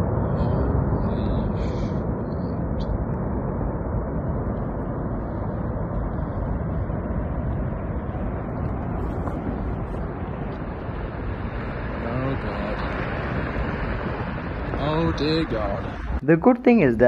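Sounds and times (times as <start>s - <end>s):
avalanche rumble: 0.0s - 16.2s.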